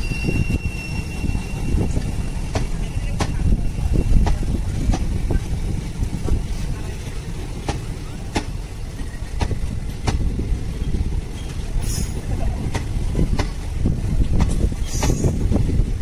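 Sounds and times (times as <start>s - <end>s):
train wheels rumbling on track: 0.0s - 16.0s
wheels clanking over rail joints: 0.0s - 16.0s.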